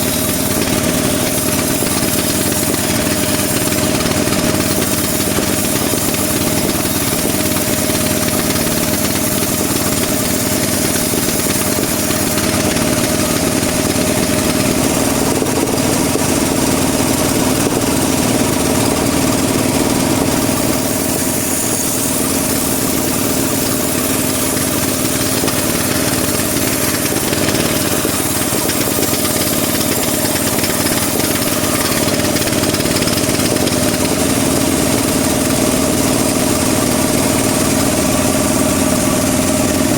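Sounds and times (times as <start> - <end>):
band sawmill droning and whining: 0.0 - 39.9.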